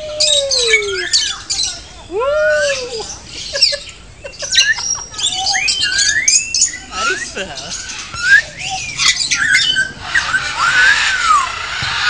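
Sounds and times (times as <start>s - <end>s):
lovebirds chirping and squawking: 0.0s - 12.0s.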